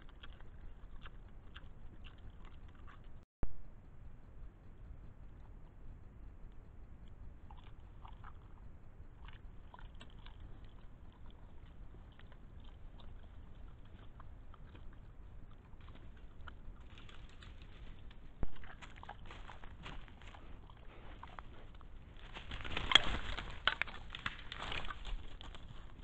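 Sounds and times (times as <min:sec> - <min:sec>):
wild boar crunching and chewing: 0:00.0 - 0:03.2, 0:04.7 - 0:26.0
low background rumble: 0:00.0 - 0:26.0.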